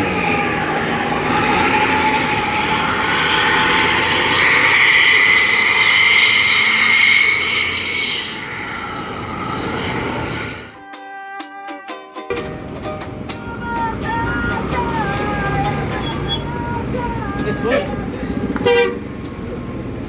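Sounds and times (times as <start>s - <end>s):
bus engine and exhaust: 0.0s - 10.8s, 12.3s - 20.0s
high whine: 0.0s - 10.8s, 12.3s - 20.0s.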